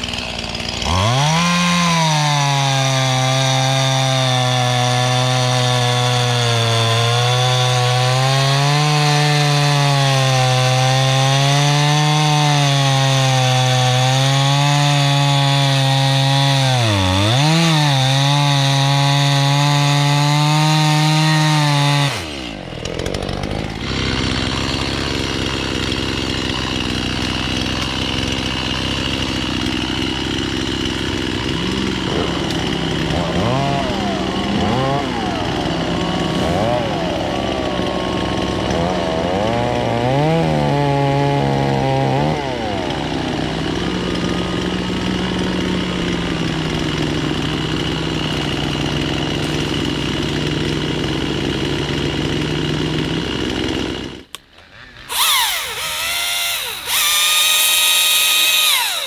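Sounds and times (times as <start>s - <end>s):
chainsaw cutting at full throttle: 0.0s - 59.0s.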